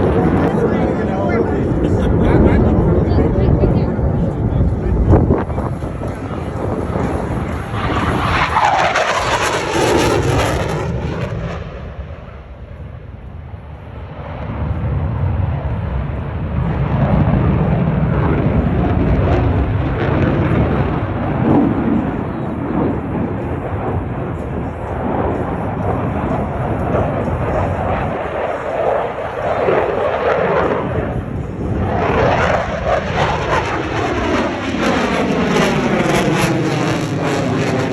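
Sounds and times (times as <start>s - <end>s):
jet roaring past: 0.0s - 37.9s
jet rumble: 0.0s - 37.9s.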